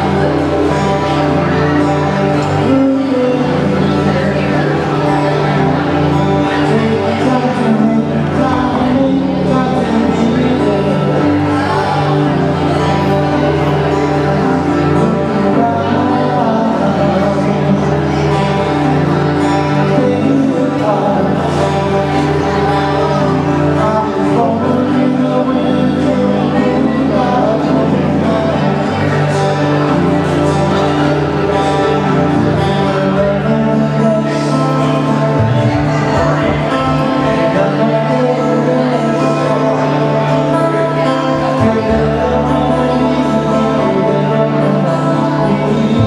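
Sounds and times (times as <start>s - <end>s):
hawaiian band music: 0.0s - 46.0s
person singing: 0.0s - 46.0s.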